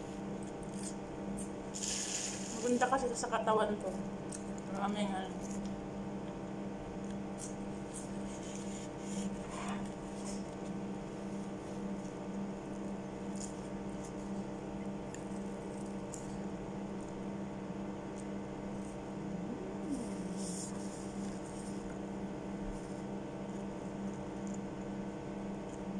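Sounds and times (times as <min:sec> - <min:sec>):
low electrical hum: 0:00.0 - 0:25.9.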